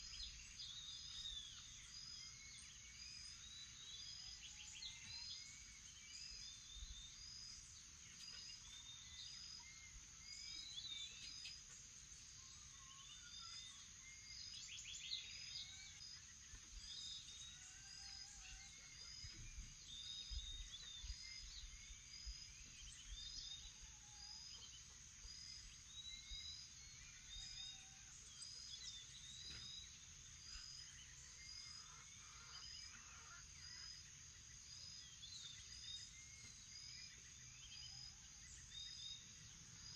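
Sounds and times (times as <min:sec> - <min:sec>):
birds calling and singing: 0:00.0 - 0:39.9.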